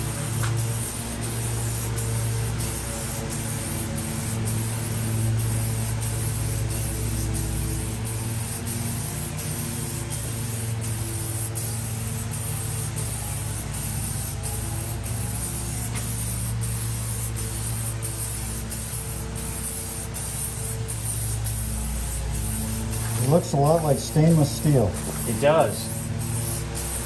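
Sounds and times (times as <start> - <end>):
spray paint can hissing: 0.0 - 27.0.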